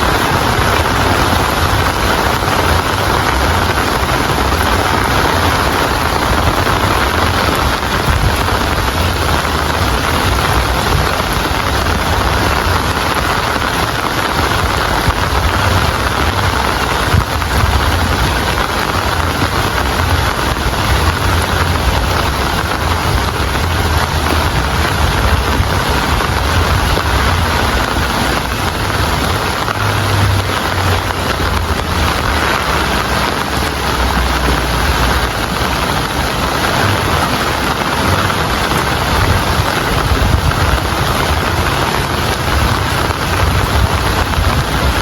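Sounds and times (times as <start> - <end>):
heavy rain: 0.0 - 45.0
low rumble: 0.0 - 45.0.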